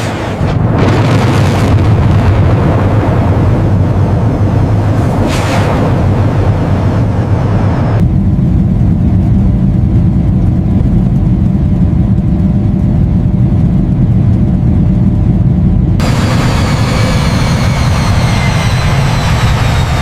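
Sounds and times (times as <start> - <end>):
low engine rumble: 0.4 - 20.0.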